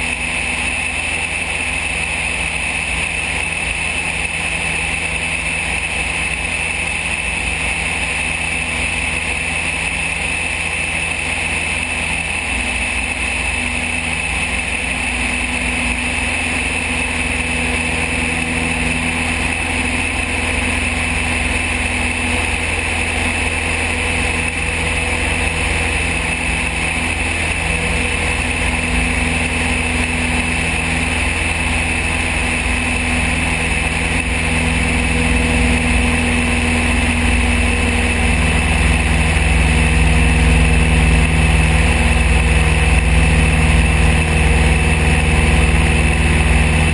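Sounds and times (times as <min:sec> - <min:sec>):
propeller aircraft engine drone: 0:00.0 - 0:46.9.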